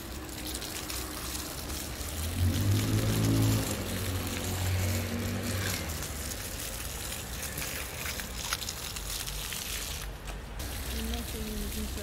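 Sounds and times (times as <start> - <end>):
fountain jets splashing on paving: 0.0 - 12.0.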